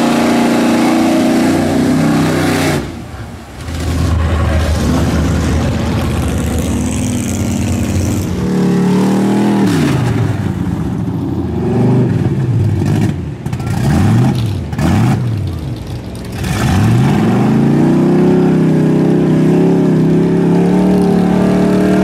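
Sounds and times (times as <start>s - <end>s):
tires spinning in mud: 0.0s - 22.0s
truck engine revving: 0.0s - 22.0s.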